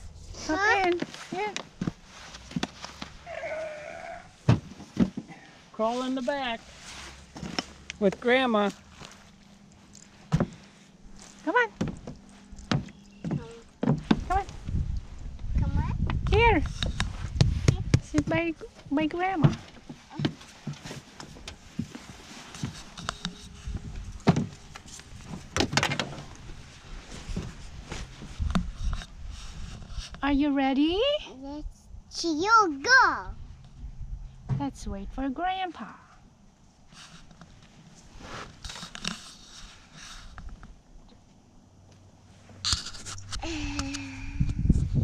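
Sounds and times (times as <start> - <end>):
faint rustling and handling: 0.0 - 15.4, 16.4 - 31.2, 36.7 - 44.2.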